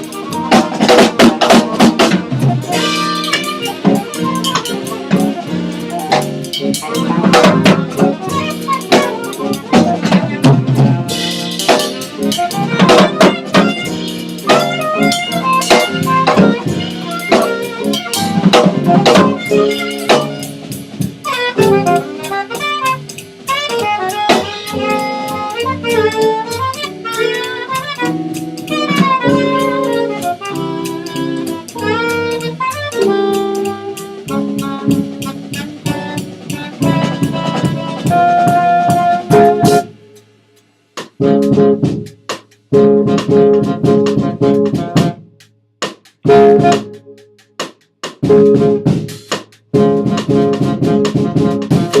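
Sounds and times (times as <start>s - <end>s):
saxophone playing: 0.0s - 40.3s, 41.2s - 42.1s, 42.8s - 45.3s, 46.3s - 47.2s, 48.3s - 49.1s, 49.7s - 52.0s
drum kit strikes: 0.0s - 52.0s.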